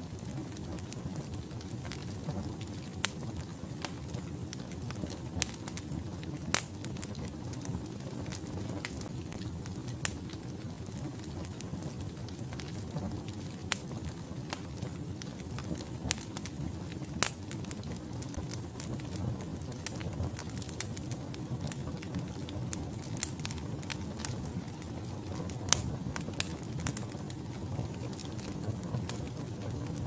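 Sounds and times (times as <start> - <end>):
logs crackling and popping: 0.0 - 30.0
low rumble of flames: 0.0 - 30.0.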